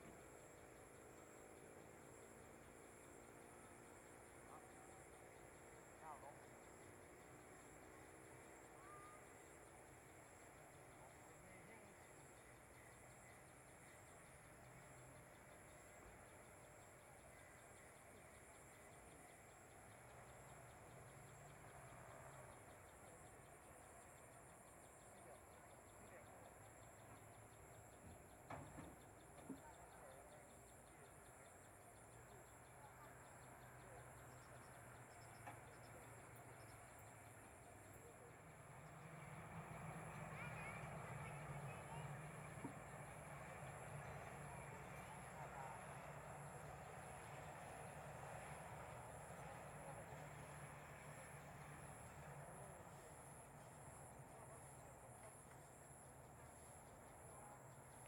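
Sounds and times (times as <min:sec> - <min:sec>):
insect chorus trilling: 0:00.0 - 0:58.0.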